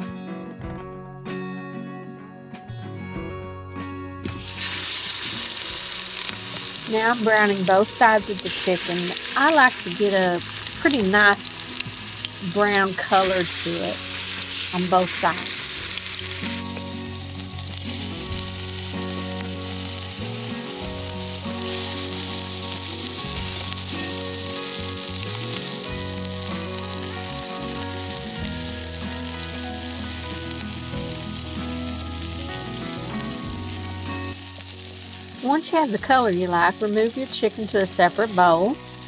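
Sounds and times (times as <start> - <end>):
instrumental music: 0.0 - 39.0
chicken sizzling in hot oil: 4.3 - 39.0.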